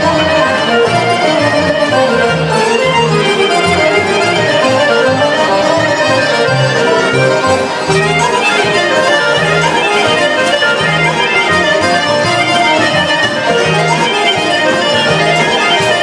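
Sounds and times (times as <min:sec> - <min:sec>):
folk dance music with accordion: 0:00.0 - 0:16.0.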